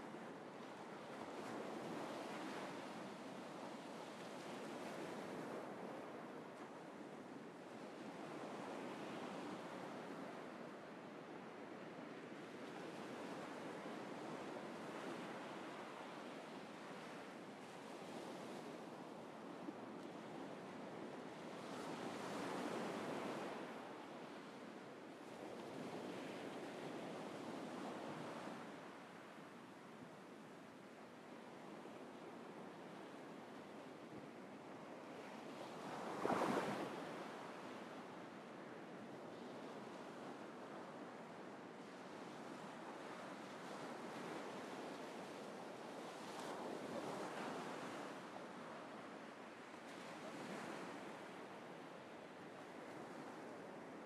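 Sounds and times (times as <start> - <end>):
surf washing up a beach: 0.0 - 54.0.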